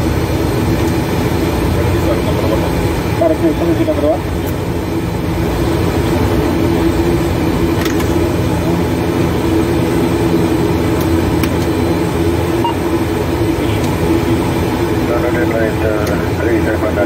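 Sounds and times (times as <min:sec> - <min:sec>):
turboprop engine drone: 0:00.0 - 0:17.0.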